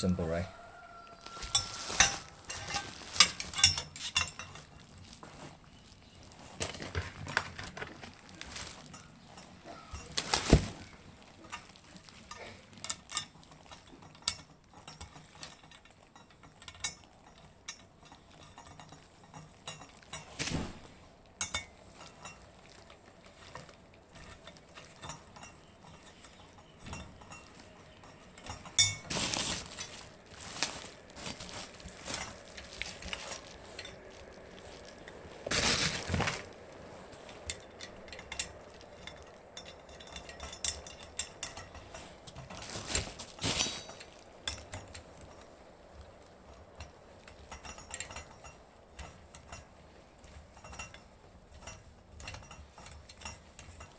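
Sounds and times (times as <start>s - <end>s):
metal tools clicking and clinking: 0.0s - 20.6s, 21.4s - 53.9s.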